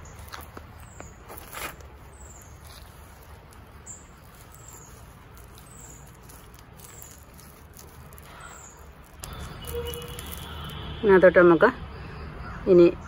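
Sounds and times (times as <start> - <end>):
hand scraping crumbly soil: 0.0 - 10.8.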